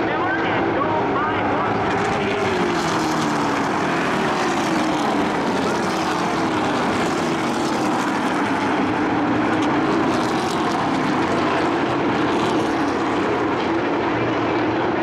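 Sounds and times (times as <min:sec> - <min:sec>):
racing truck engines droning: 0:00.0 - 0:15.0.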